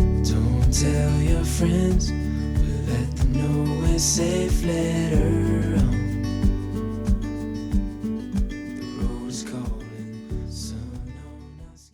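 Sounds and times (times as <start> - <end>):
acoustic guitar song with beat: 0.0 - 11.9.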